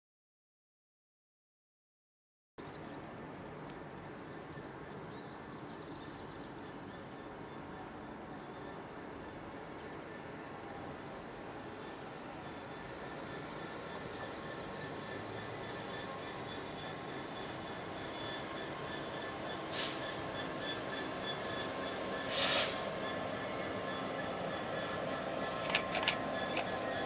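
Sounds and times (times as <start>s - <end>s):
diesel locomotive engine drone: 2.6s - 27.0s.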